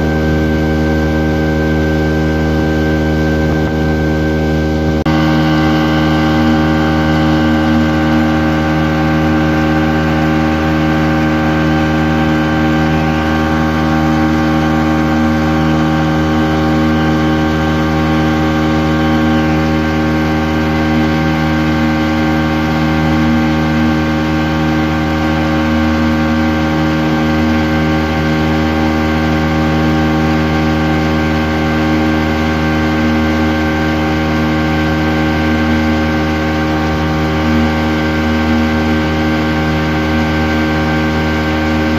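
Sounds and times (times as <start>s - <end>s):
outboard motor running: 0.0s - 41.9s
rush of boat wake: 0.0s - 41.9s.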